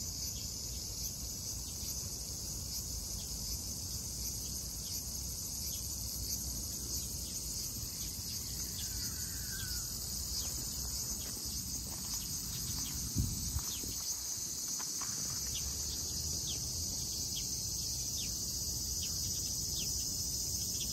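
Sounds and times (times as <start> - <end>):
insects chorus: 0.0 - 20.9.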